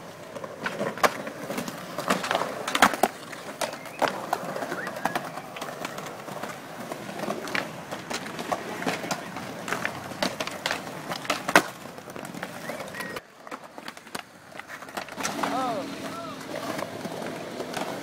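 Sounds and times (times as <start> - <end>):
skateboard clacks: 0.0 - 18.0
skateboard wheels rolling on concrete: 0.0 - 18.0.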